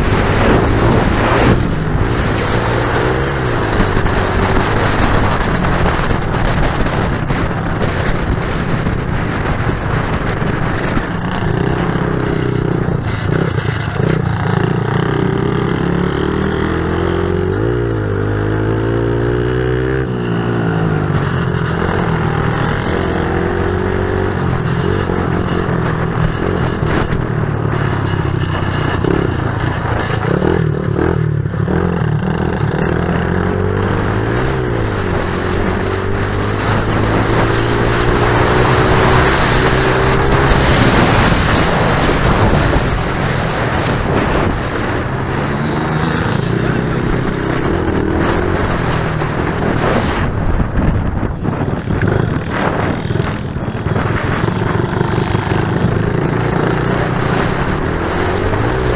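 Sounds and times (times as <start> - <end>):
pit bike engines revving: 0.0 - 58.9.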